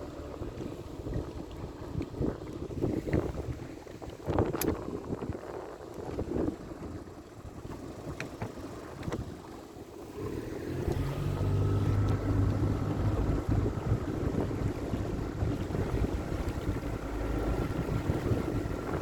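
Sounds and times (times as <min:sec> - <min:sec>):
motorboat engine running: 0:00.0 - 0:19.0
water sounds: 0:00.0 - 0:19.0
wind buffeting microphone: 0:00.0 - 0:19.0.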